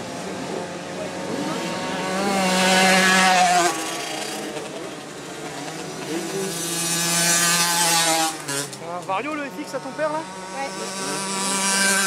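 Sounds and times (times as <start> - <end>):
motorcycle approaching: 0.0 - 12.0
two-stroke motorcycle engine revving: 0.0 - 12.0.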